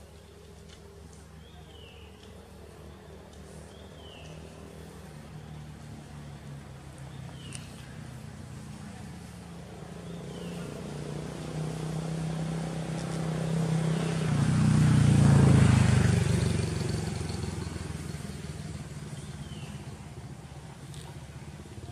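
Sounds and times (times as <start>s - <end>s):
vehicle engine passing by: 1.1s - 21.9s.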